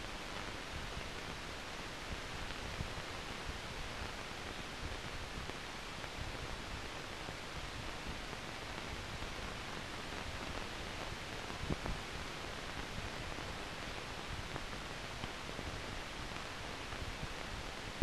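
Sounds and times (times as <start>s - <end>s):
film soundtrack hiss and crackle: 0.0s - 18.0s.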